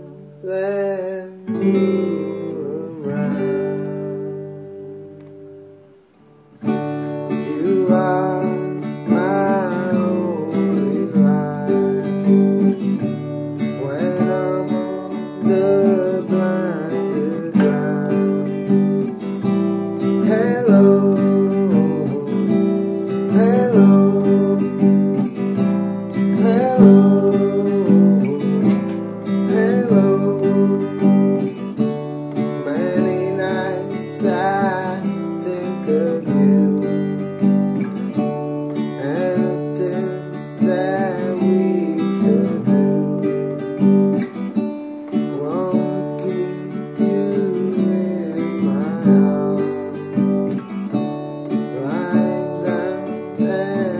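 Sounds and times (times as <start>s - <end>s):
man singing: 0.0s - 4.9s, 7.2s - 53.9s
acoustic guitar strumming: 0.0s - 53.9s.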